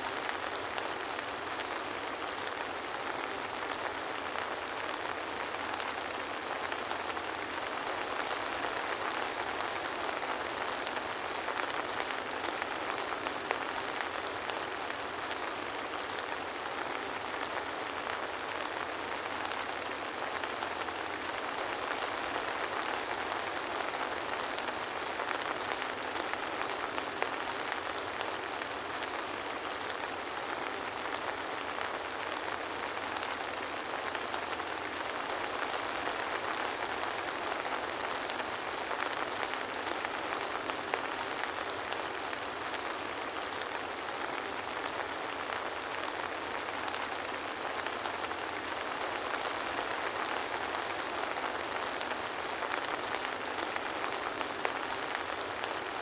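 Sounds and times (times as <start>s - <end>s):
soft rain pattering: 0.0s - 56.0s.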